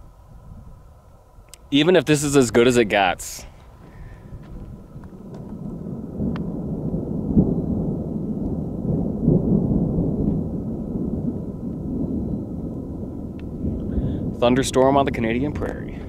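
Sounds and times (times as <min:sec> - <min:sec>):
distant thunder rumbling: 0:00.0 - 0:16.0.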